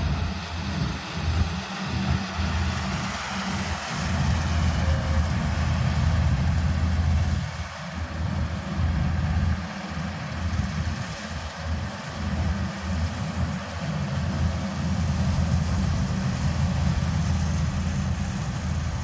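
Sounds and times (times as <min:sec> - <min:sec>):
combine harvester engine: 0:00.0 - 0:19.0.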